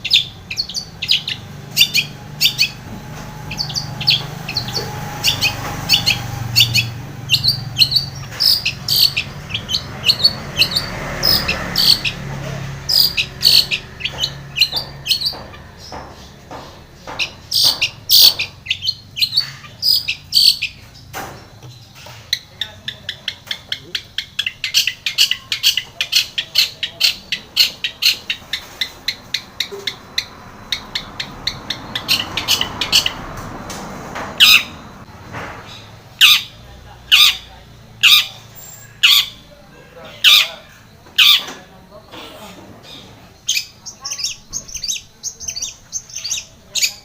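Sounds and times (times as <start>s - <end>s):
bird singing sharp high chirps: 0.0s - 21.1s, 21.7s - 33.2s, 35.7s - 39.5s, 42.9s - 47.0s.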